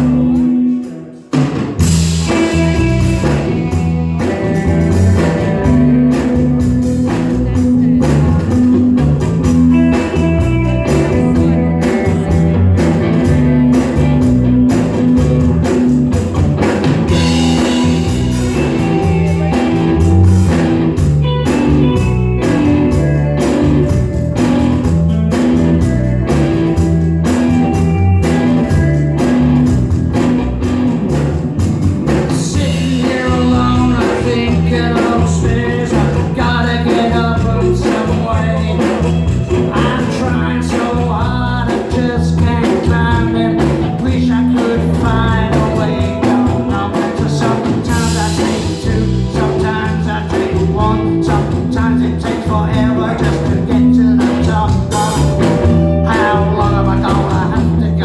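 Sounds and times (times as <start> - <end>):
bass guitar: 0.0 - 58.0
electric guitars: 0.0 - 58.0
drum beat: 0.2 - 58.0.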